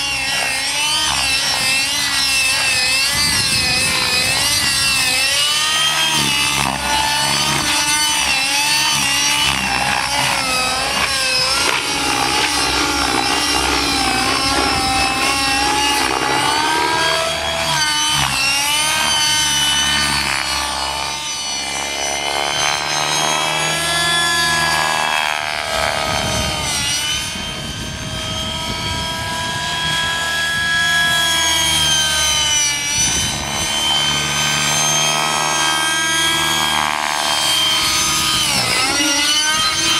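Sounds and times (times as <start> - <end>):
model helicopter engine and rotor whine: 0.0 - 39.9.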